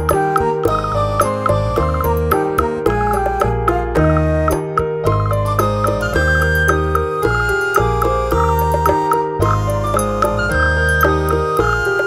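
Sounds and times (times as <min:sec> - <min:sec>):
gentle instrumental tune: 0:00.0 - 0:12.0.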